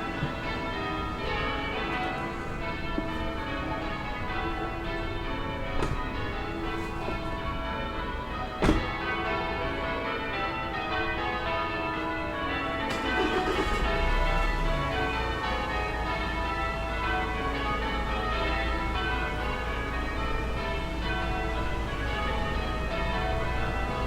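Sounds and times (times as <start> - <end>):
distant church bells pealing: 0.0 - 24.0
town background noise: 0.0 - 24.0.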